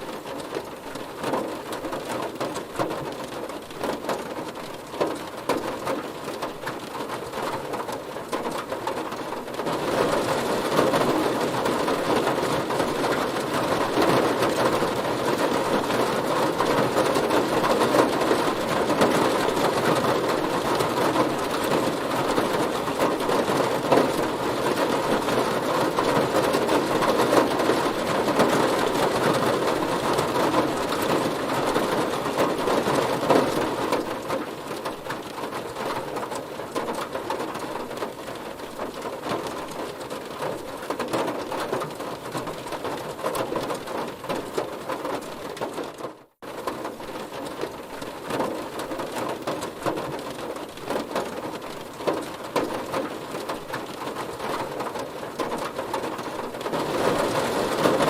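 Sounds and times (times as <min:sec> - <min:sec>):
heavy rain drumming on a car: 0:00.0 - 0:58.0.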